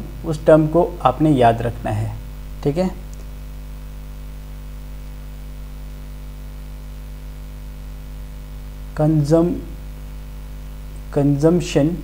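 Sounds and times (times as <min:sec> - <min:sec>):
recording hiss: 0:00.0 - 0:05.5, 0:06.7 - 0:12.0
electrical mains hum: 0:00.0 - 0:12.0.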